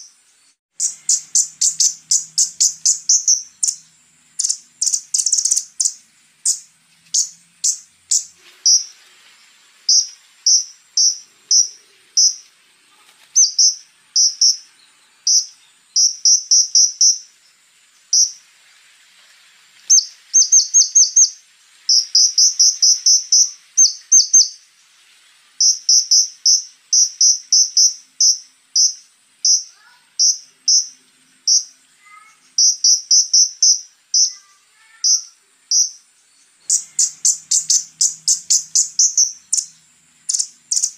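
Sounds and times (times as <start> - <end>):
bird chirping high chips: 0.0 - 12.6, 13.3 - 18.4, 19.9 - 24.7, 25.6 - 40.9.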